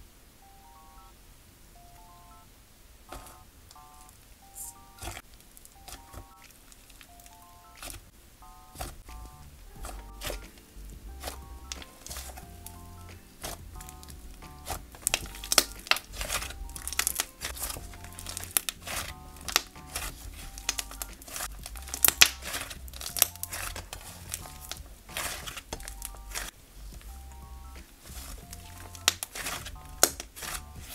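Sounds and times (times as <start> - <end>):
slime crackling and popping: 4.0 - 8.0, 8.7 - 30.9.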